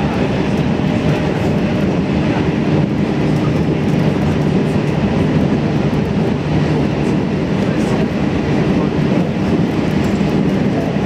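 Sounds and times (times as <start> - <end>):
train wheels on rail and motors: 0.0 - 11.0.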